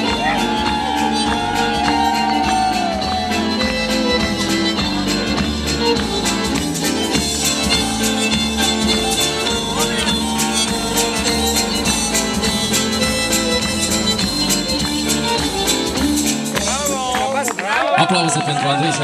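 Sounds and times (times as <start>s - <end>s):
dance music with steady beat: 0.0s - 17.4s.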